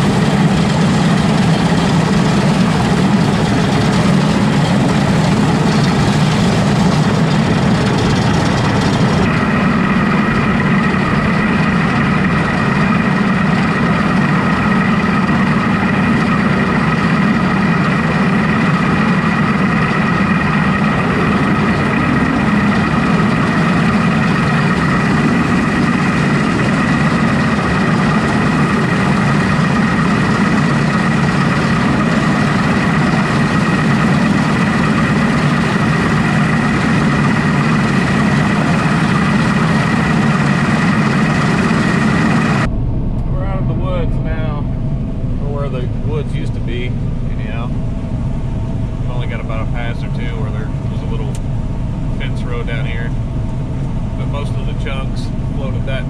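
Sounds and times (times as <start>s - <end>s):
combine harvester engine drone: 0.0s - 56.0s
high machine whine: 0.0s - 56.0s.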